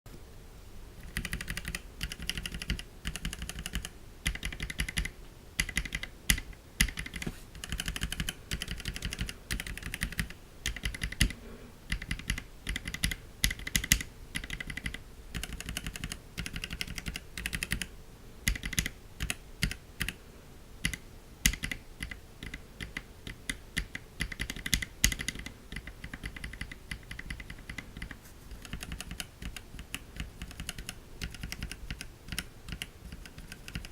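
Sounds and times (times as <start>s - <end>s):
typing on mechanical keyboard: 1.0s - 20.2s, 20.8s - 33.9s.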